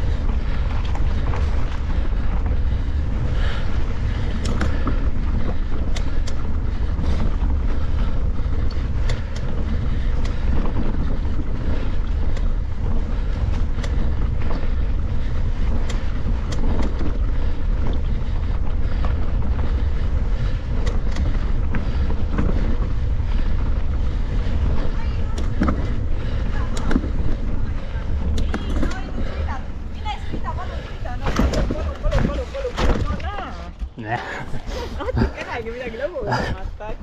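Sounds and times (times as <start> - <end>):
bike clicks and rattles: 0.0 - 37.0
wind rumbling on microphone: 0.0 - 37.0.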